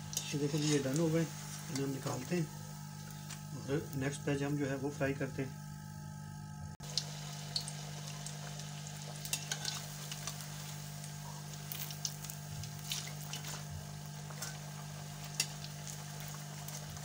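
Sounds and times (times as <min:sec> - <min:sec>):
patties sizzling in hot oil: 0:00.0 - 0:06.0, 0:06.8 - 0:17.0.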